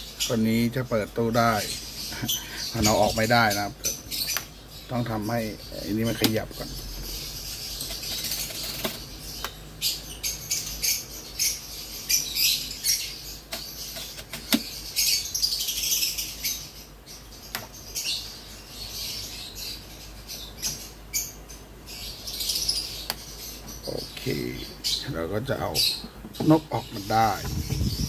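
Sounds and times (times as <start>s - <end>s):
birds chirping shrilly: 0.0s - 28.0s.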